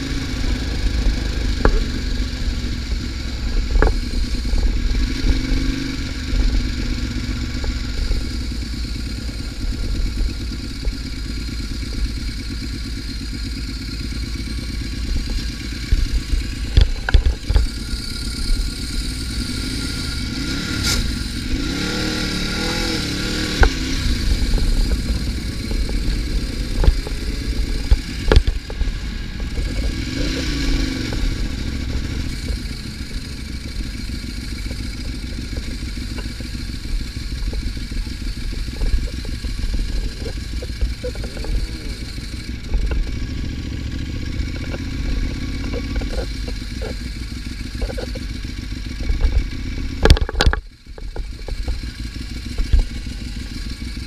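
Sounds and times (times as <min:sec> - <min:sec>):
motorcycle engine at speed: 0:00.0 - 0:54.0.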